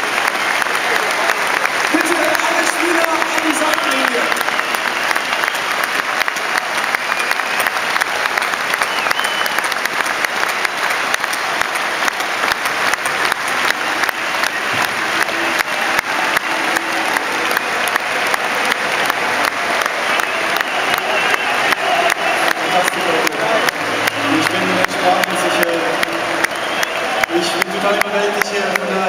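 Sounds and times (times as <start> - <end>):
stadium crowd clapping: 0.0 - 29.0.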